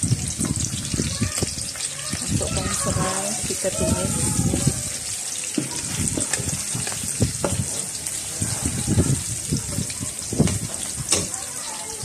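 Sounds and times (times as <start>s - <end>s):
oil sizzling in a wok: 0.0s - 12.0s.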